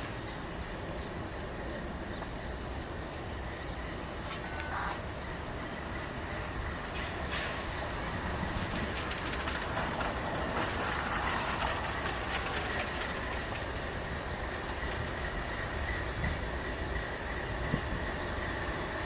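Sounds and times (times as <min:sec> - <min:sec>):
train rumbling past on rails: 0:00.0 - 0:19.0.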